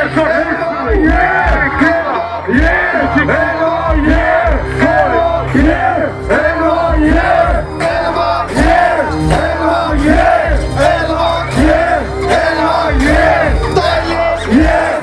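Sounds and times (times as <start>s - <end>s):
crowd yelling along: 0.0s - 15.0s
hip hop music with bass beat: 0.0s - 15.0s
loud shouted vocals: 0.0s - 15.0s.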